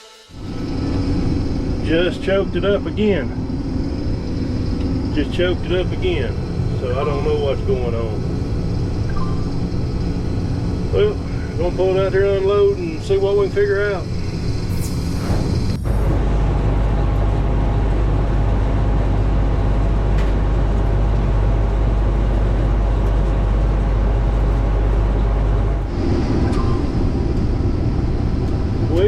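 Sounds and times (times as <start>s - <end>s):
combine harvester droning: 0.0s - 29.0s.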